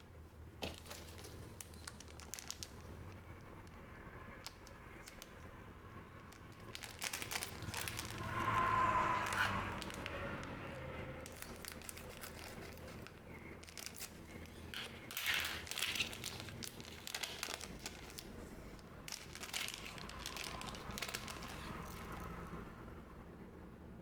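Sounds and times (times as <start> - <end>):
wrappers crinkling: 0.6 - 22.7.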